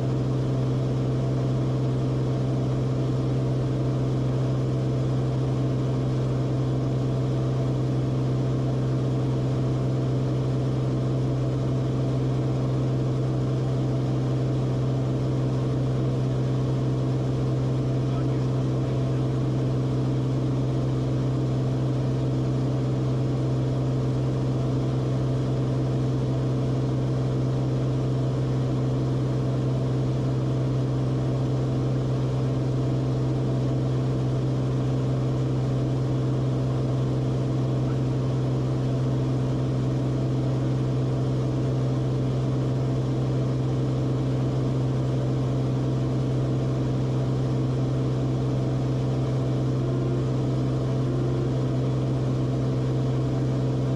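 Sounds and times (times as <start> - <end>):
propeller plane engine drone: 0.0 - 53.9.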